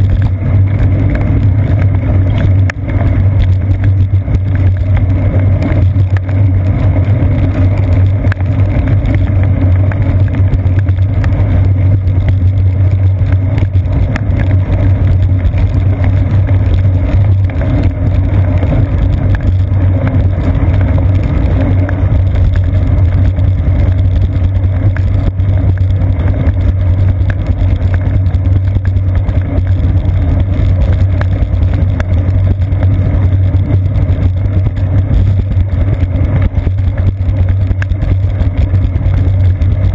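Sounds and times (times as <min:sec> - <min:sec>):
bicycle tyres rumbling on wet path: 0:00.0 - 0:39.9.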